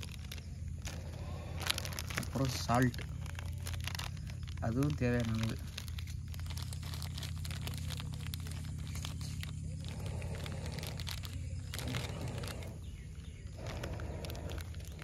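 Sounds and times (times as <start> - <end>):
low background rumble: 0.0 - 15.0
plastic packet crinkling: 0.0 - 15.0.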